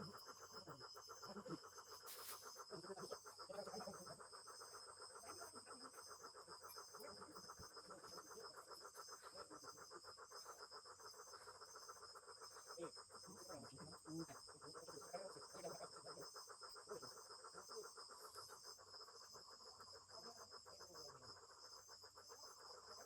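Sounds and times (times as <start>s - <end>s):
fast pulsing animal calls: 0.0s - 23.0s.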